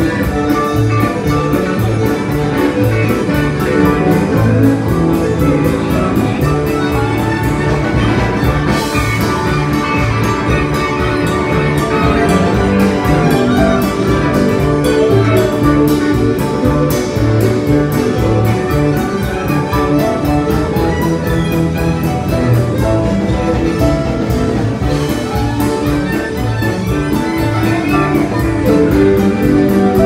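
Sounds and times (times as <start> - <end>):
drum kit beat: 0.0 - 30.0
electric guitars: 0.0 - 30.0
fiddle: 0.0 - 30.0
pedal steel guitar: 0.0 - 30.0.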